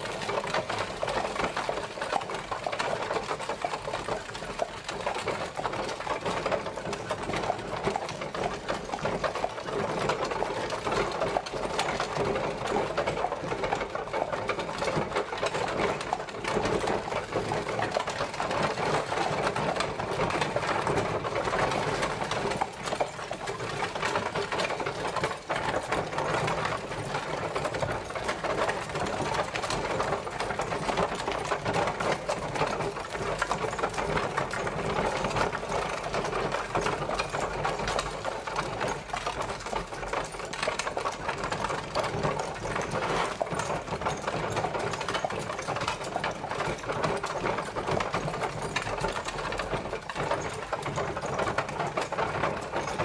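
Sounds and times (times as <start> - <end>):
carriage wheels clattering: 0.0 - 53.0.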